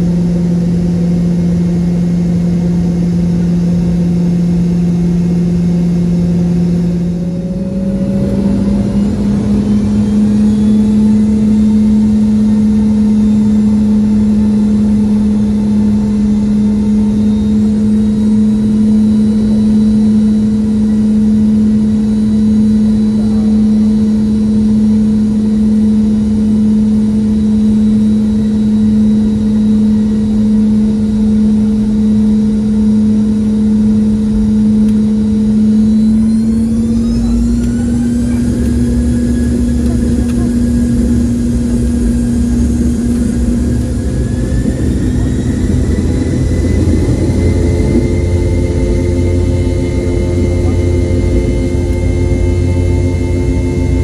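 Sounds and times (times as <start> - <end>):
jet engine drone inside cabin: 0.0 - 54.0.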